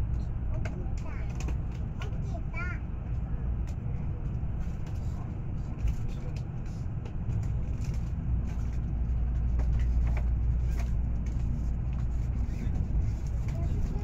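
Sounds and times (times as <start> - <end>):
train rumble from inside car: 0.0 - 14.0.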